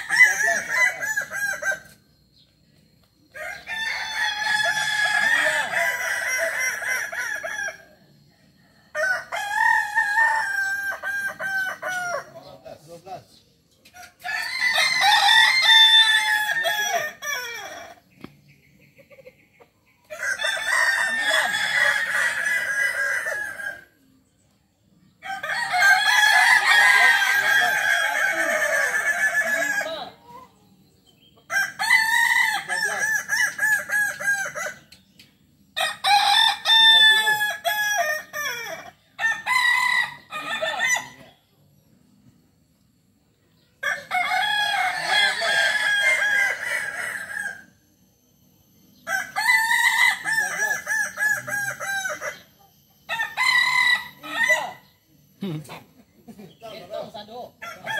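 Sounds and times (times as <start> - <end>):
roosters crowing: 0.0 - 2.4, 3.0 - 12.8, 13.9 - 18.3, 19.9 - 24.2, 24.8 - 41.9, 42.7 - 47.8, 48.6 - 57.9.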